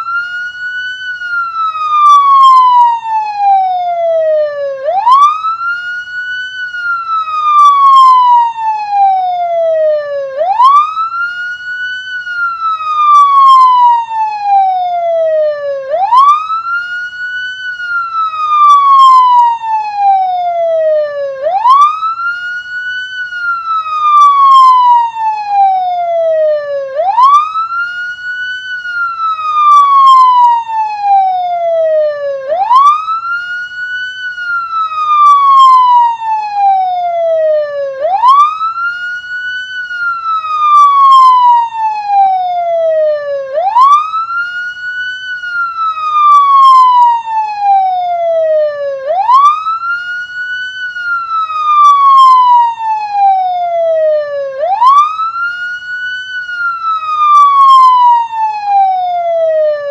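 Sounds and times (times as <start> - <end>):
ambulance siren wailing: 0.0 - 59.9.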